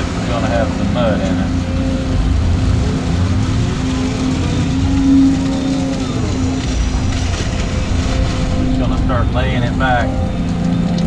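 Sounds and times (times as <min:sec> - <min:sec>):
excavator engine and hydraulics: 0:00.0 - 0:11.0.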